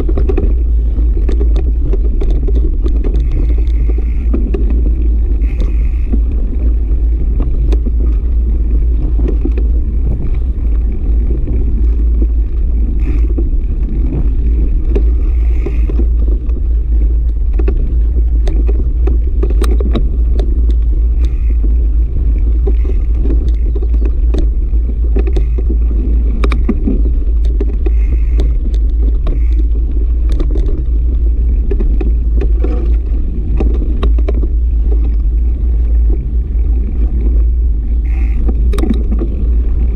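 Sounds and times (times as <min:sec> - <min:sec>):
bike rattles and knocks: 0:00.0 - 0:39.9
wind and riding rumble: 0:00.0 - 0:39.9.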